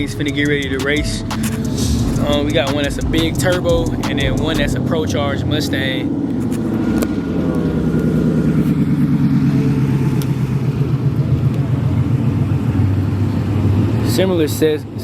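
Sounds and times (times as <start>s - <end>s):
car engine with loud exhaust: 0.0s - 15.0s.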